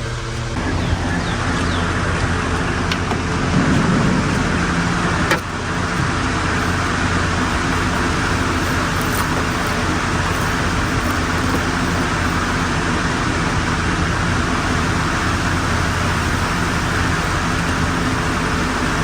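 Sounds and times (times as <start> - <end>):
engine drone: 0.0 - 19.0
road noise hiss: 0.0 - 19.0.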